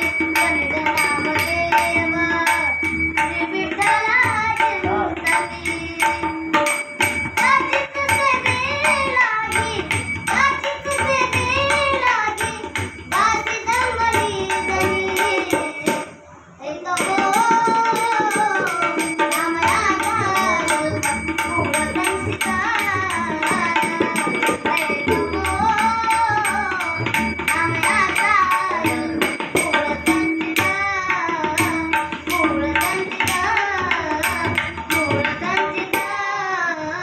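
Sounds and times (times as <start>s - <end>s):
person singing a melody: 0.0s - 6.7s, 7.4s - 37.0s.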